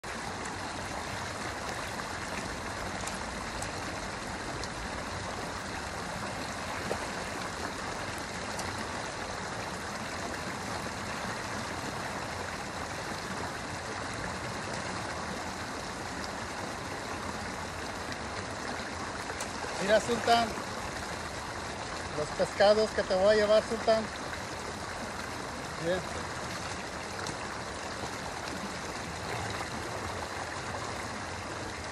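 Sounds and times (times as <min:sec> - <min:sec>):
river water running over concrete: 0:00.0 - 0:31.9.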